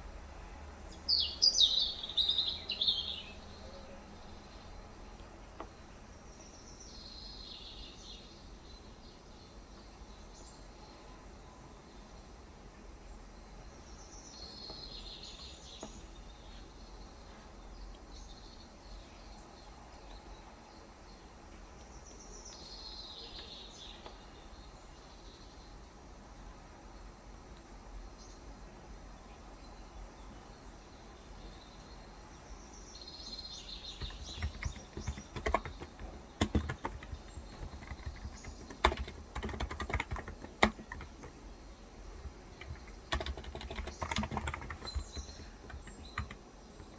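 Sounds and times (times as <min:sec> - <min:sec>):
background hiss: 0:00.0 - 0:46.9.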